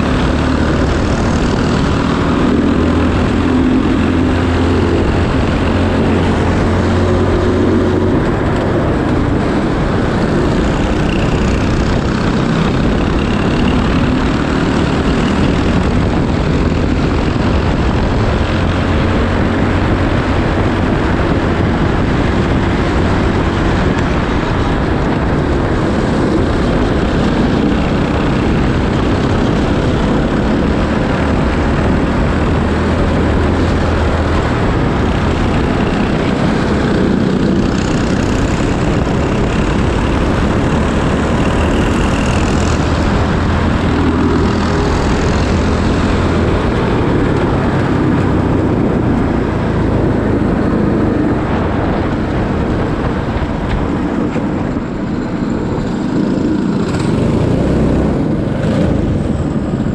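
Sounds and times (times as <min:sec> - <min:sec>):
racing kart engine: 0:00.0 - 0:59.9.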